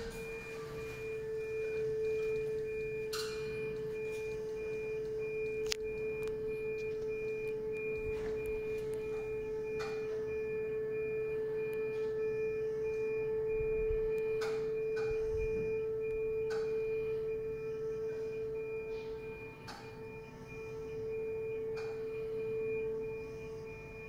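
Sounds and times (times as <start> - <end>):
high warning beeps: 0.0 - 24.0
hydraulic pump humming: 0.0 - 24.0.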